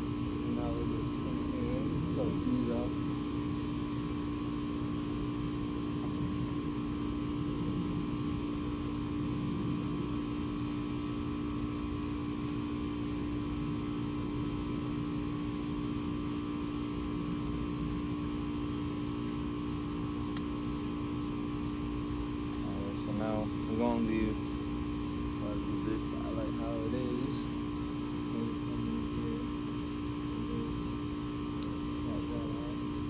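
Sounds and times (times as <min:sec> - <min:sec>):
steady hum with tones: 0:00.0 - 0:33.0.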